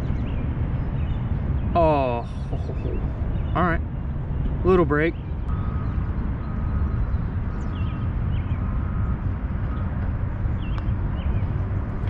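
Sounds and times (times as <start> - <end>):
bird chirps: 0.0 - 9.9
wind rumbling on microphone: 0.0 - 12.0.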